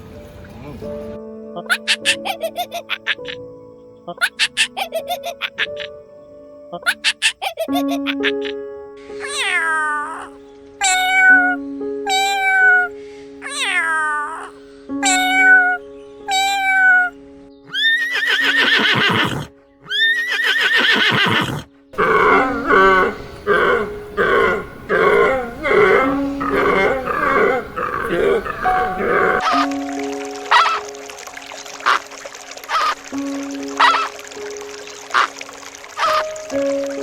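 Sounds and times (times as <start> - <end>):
background music: 0.0 - 37.0
rough animal calls: 1.6 - 3.4, 4.1 - 5.9, 6.7 - 29.7, 30.5 - 30.9, 31.8 - 34.2, 35.1 - 37.0.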